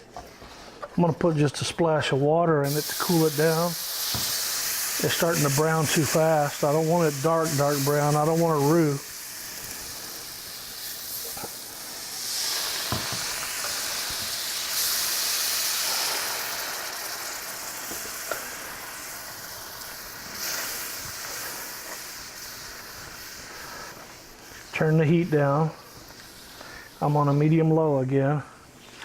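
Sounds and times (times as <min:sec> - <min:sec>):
roux sizzling in a pan: 0:02.6 - 0:27.6
steam hiss: 0:02.6 - 0:28.8.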